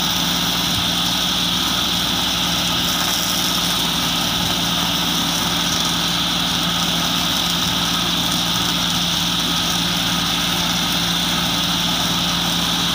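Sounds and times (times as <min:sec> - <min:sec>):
grass mulcher whirring: 0:00.0 - 0:12.9
tractor engine droning: 0:00.0 - 0:12.9.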